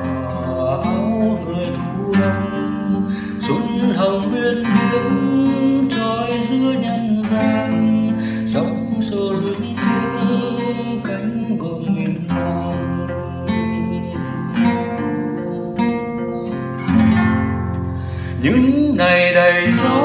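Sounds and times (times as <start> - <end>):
plucked acoustic guitar music: 0.0 - 20.0.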